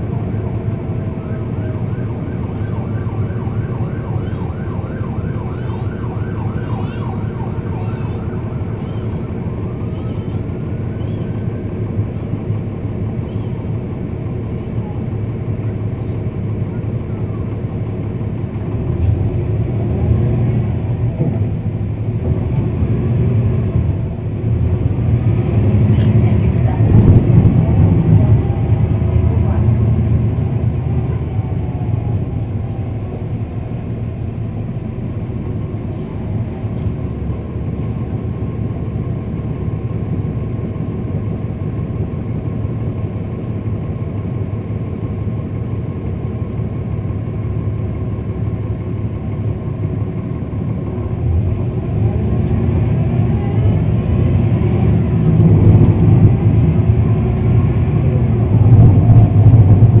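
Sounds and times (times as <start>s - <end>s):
bus diesel engine rumble: 0.0s - 60.0s.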